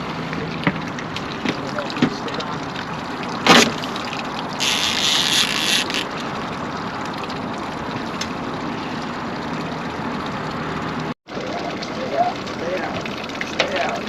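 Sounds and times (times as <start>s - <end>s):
wind and water noise: 0.0s - 14.0s.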